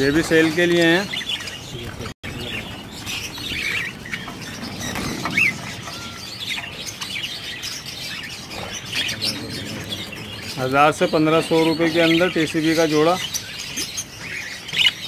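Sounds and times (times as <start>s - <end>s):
budgerigars chirping and chattering: 0.0s - 15.0s.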